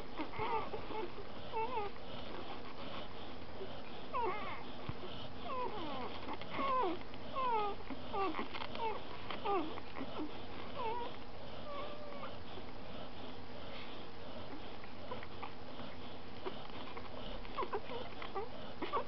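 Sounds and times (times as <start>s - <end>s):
puppies squeaking and whining: 0.0s - 19.0s.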